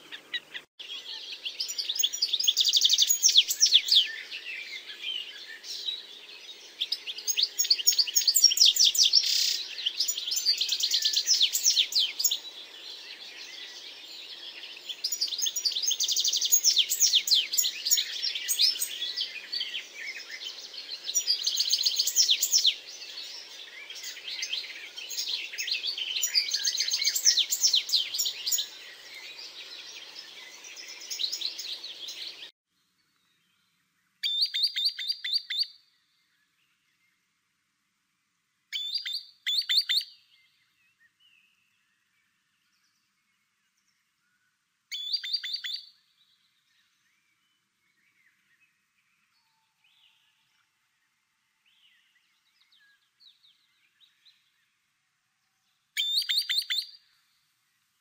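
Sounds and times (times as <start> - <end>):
faint steady hiss: 0.0 - 58.0
songbirds chirping and trilling: 0.0 - 58.0.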